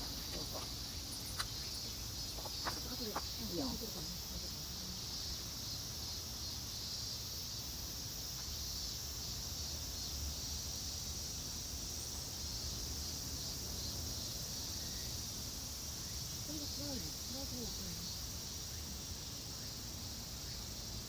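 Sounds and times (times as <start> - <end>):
insects chirping chorus: 0.0 - 21.0.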